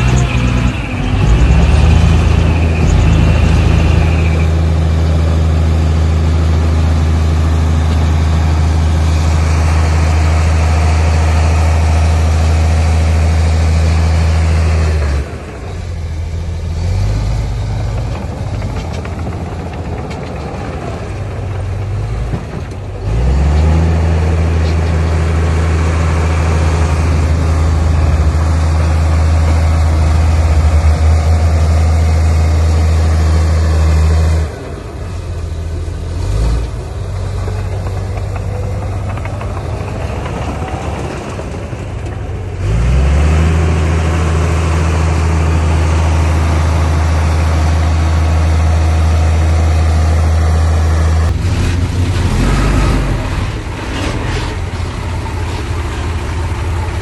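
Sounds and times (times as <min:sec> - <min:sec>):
heavy diesel engine drone: 0:00.0 - 0:57.0.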